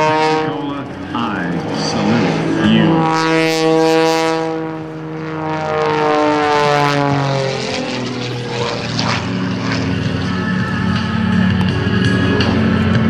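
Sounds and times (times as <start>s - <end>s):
propeller plane droning in flight: 0.0s - 13.0s.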